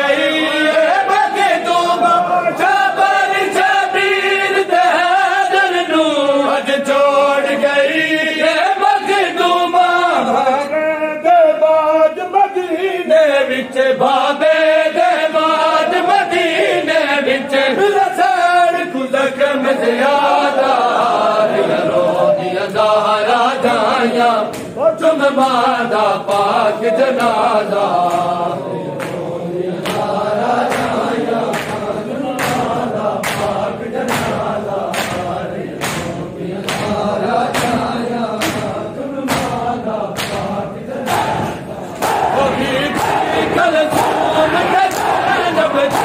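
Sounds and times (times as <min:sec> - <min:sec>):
men chanting a lament: 0:00.0 - 0:46.0.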